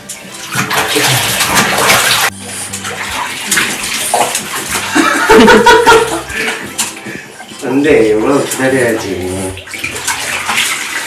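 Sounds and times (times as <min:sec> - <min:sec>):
water splashing in a bathtub: 0:00.0 - 0:11.0.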